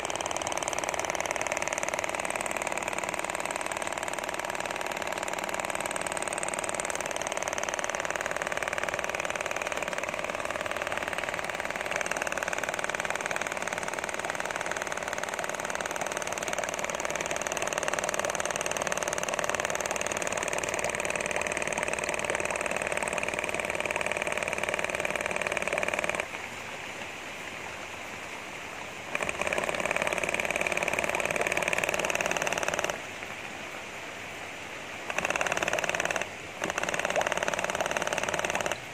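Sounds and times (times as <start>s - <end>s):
diaphragm air pump rattling: 0.0s - 26.4s, 29.1s - 33.1s, 35.0s - 38.9s.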